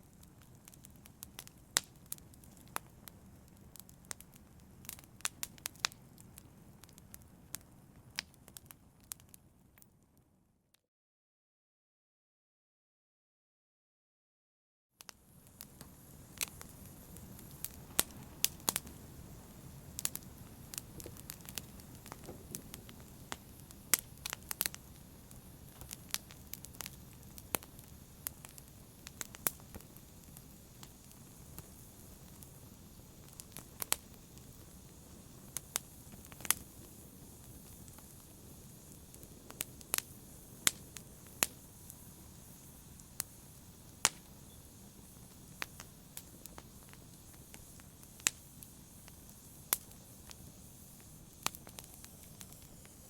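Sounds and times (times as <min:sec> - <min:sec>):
wood fire crackling: 0:00.0 - 0:09.9, 0:15.0 - 0:53.0.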